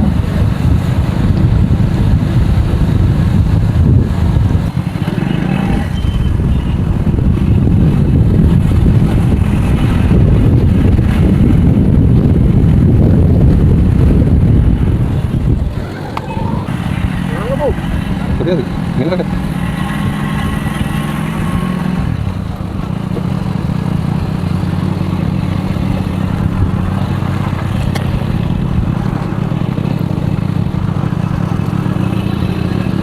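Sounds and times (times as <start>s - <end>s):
vehicle low rumble: 0.0s - 33.0s.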